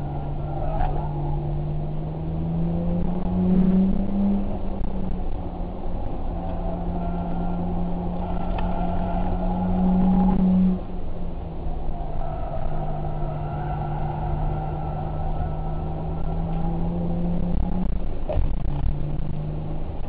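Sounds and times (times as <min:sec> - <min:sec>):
car engine running hard: 0:00.0 - 0:20.0.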